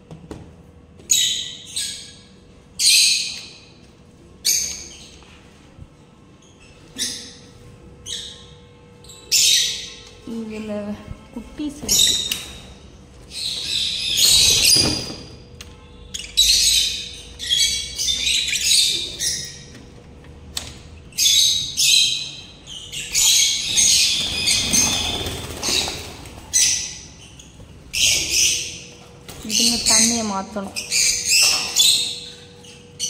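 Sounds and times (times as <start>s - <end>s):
cage birds chirping and squawking: 0.8s - 33.0s.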